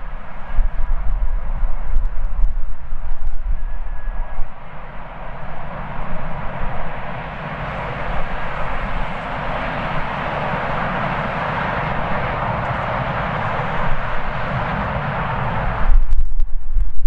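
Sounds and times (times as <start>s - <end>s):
jet engines rushing: 0.0s - 16.2s
wind buffeting microphone: 0.0s - 17.0s.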